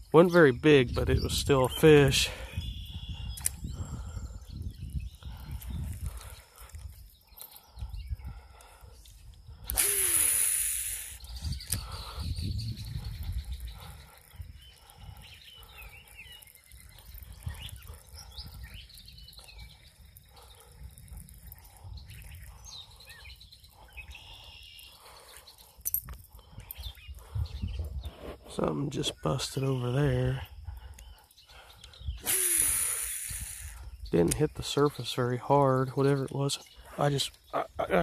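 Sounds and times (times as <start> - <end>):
low wind rumble: 0.0 - 35.1
small birds chirping: 0.0 - 38.0.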